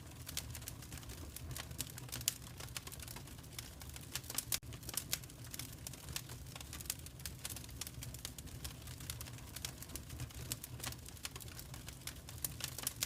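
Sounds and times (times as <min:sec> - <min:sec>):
low rumble of burning: 0:00.0 - 0:13.0
wood fire crackling and popping: 0:00.0 - 0:13.0.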